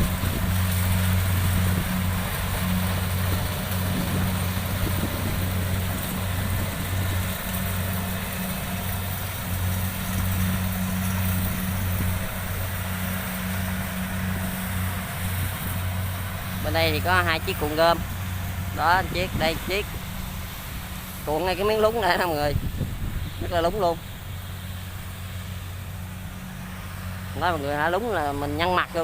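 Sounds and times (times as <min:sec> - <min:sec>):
combine harvester engines running: 0:00.0 - 0:29.0.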